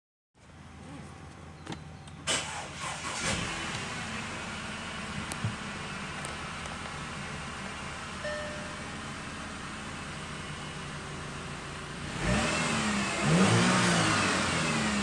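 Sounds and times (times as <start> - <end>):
car engine idling: 0.4 - 15.0.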